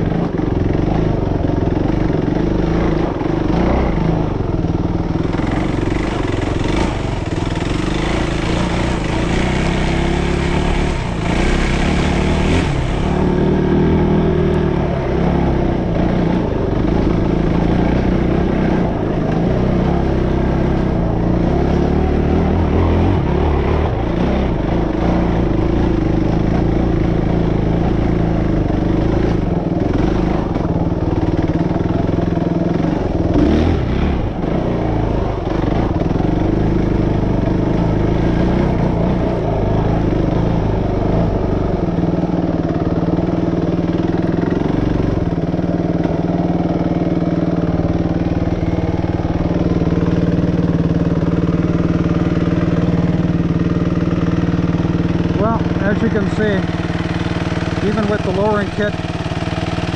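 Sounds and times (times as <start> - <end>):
dirt bike engine: 0.0 - 59.9.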